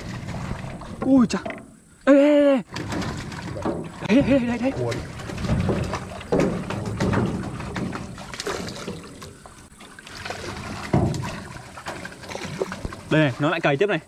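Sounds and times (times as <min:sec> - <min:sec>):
water splashing around boat: 0:00.0 - 0:01.9, 0:02.6 - 0:14.0.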